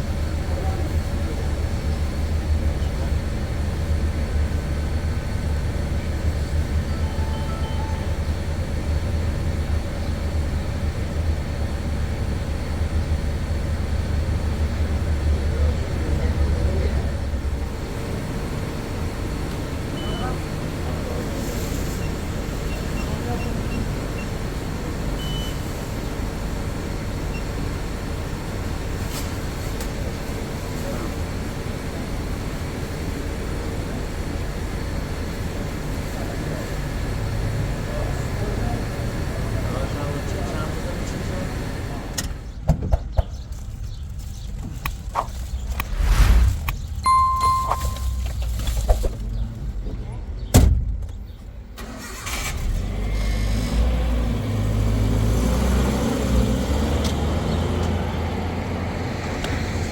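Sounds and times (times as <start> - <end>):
low rumble of moving vehicle: 0.0 - 59.9.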